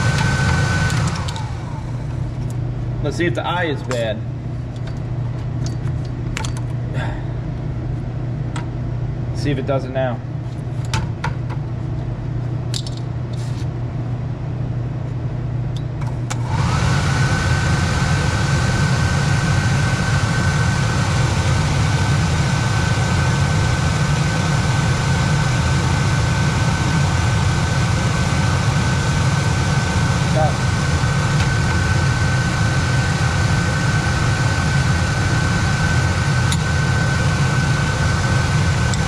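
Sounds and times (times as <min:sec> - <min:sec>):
blower motor whine: 0:00.0 - 0:39.0
low machine hum: 0:00.0 - 0:39.0.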